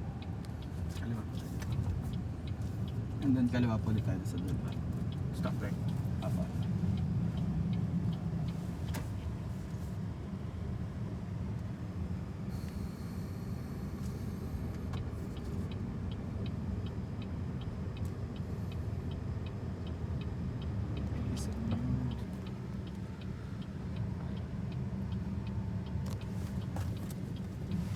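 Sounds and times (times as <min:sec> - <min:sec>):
road and tyre rumble: 0:00.0 - 0:27.9
turn signal ticking: 0:00.0 - 0:27.9.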